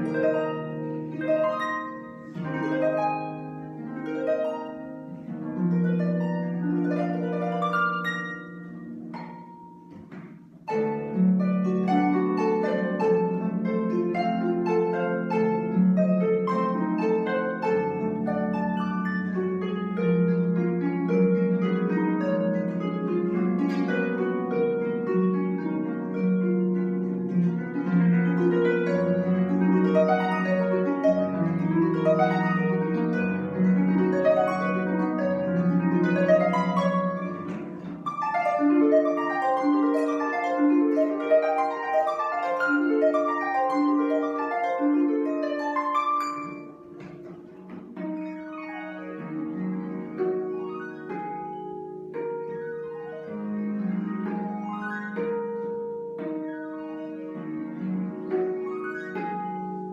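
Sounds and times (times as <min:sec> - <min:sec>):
harp playing: 0:00.0 - 0:59.9.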